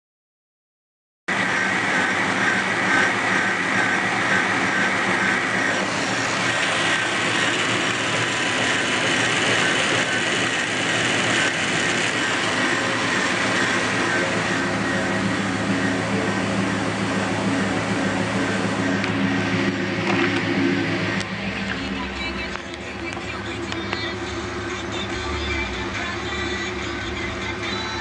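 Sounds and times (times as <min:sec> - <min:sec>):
alternator belt whining: 0:01.3 - 0:28.0
car engine running: 0:01.3 - 0:28.0.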